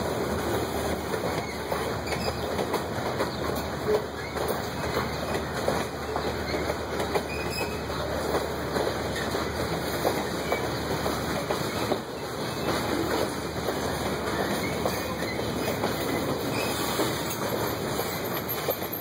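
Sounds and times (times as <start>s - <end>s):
steel wheels rumbling on rails: 0.0s - 19.0s
wheels clicking over track: 0.0s - 19.0s.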